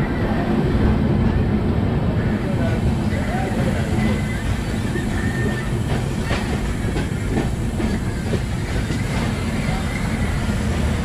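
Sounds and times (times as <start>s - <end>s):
low rumble of wheels on rails: 0.0s - 11.0s.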